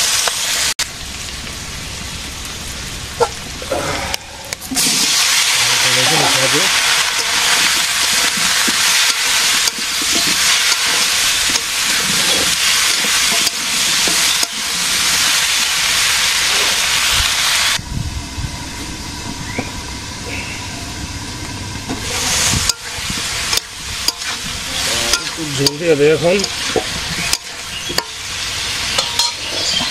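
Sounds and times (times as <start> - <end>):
fish sizzling in hot oil: 0.0 - 17.8, 19.0 - 29.9.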